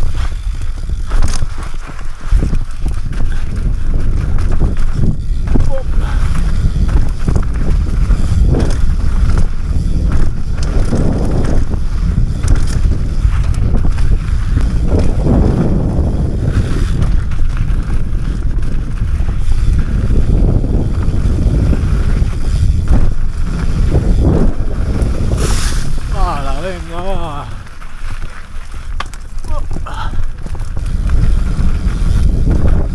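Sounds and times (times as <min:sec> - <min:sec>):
bike knocks and rattles: 0:00.0 - 0:32.9
wind buffeting microphone: 0:00.0 - 0:32.9.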